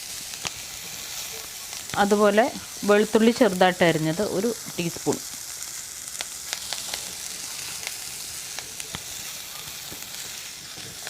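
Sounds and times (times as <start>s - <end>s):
food sizzling in hot oil: 0.0s - 11.0s
oil crackling and popping: 0.0s - 11.0s.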